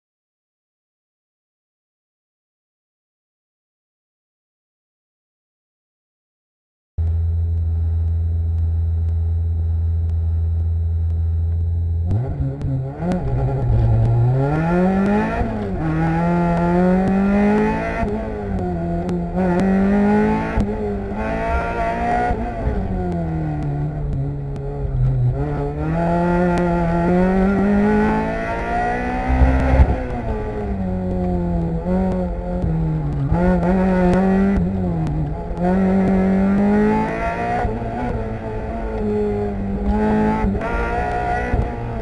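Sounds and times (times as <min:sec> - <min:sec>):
car engine revving: 0:07.0 - 0:42.0.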